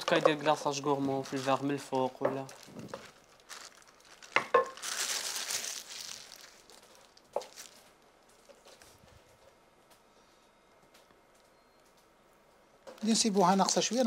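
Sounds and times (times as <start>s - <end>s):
crinkling and rustling: 0.0s - 10.0s, 10.8s - 14.0s.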